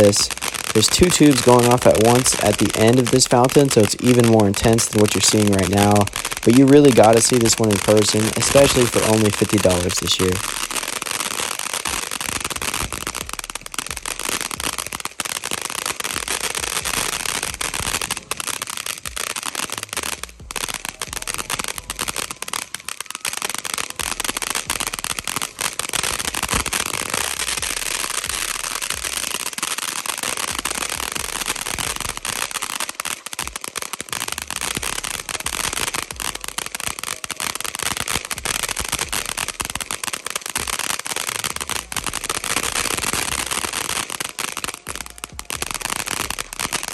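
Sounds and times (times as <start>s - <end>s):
fountain firework crackling: 0.0s - 46.9s.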